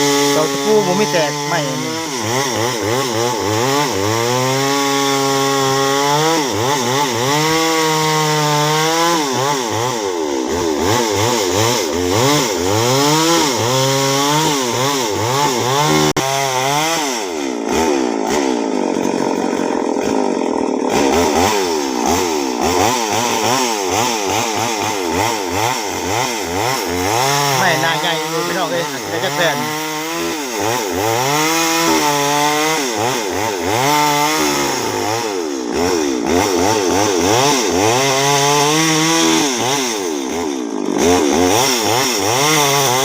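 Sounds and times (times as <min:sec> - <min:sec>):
chainsaw cutting log: 0:00.0 - 0:43.0.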